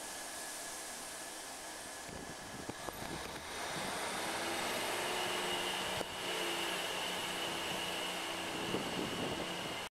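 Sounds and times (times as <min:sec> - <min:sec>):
diesel locomotive drone: 0:00.0 - 0:09.9.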